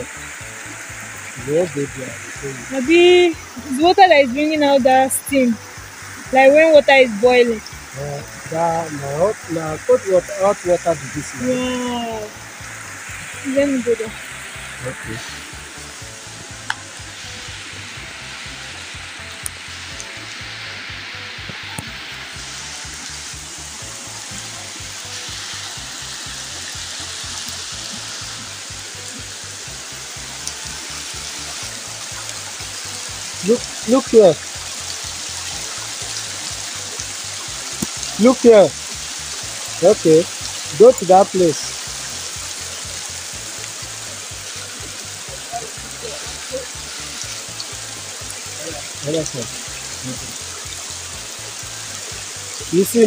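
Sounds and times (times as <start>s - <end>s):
faint background music: 0.0s - 53.0s
spring water running: 0.0s - 53.0s.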